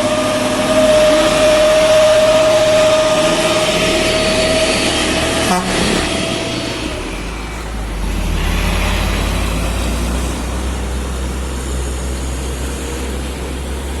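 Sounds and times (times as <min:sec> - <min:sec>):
diesel truck engine droning: 0:00.0 - 0:14.0
road and wind noise: 0:00.0 - 0:14.0.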